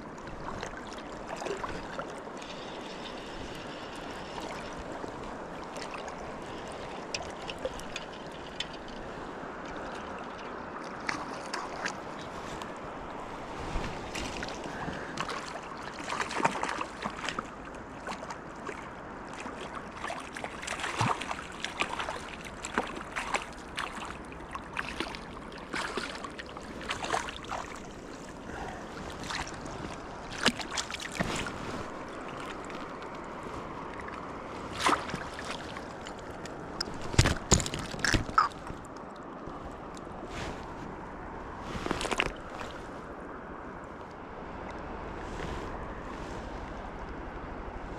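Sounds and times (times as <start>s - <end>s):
river water running: 0.0s - 47.9s
small splashes and clicks: 0.4s - 13.2s, 13.8s - 40.1s, 41.8s - 42.8s.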